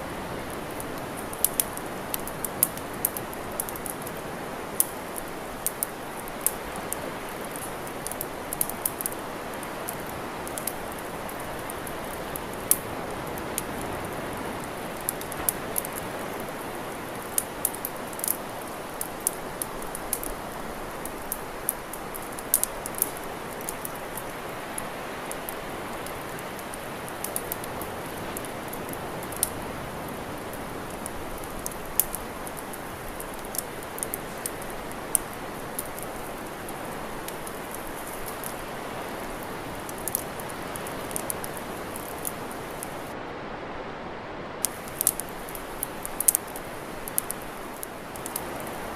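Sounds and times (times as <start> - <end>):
steady rushing hiss: 0.0 - 43.4, 44.4 - 48.9
campfire crackling and popping: 0.1 - 43.2, 44.6 - 48.9.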